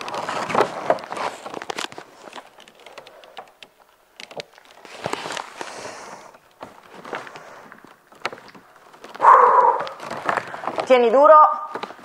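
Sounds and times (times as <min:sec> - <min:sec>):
hissing plastic rustle: 0:00.0 - 0:12.0.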